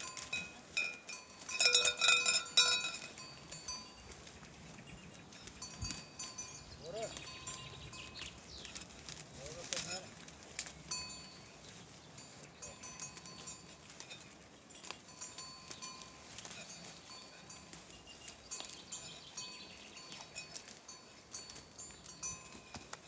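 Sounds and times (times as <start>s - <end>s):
small metal bells tinkling: 0.0s - 23.0s.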